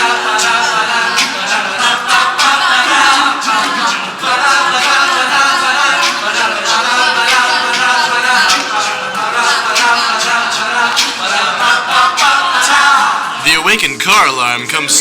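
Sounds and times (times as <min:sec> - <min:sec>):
a cappella group singing: 0:00.0 - 0:14.6.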